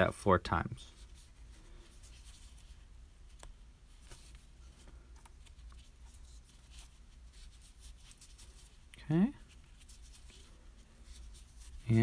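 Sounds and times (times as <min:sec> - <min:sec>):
low room hum: 0:00.0 - 0:12.0
yarn rustling: 0:00.8 - 0:12.0.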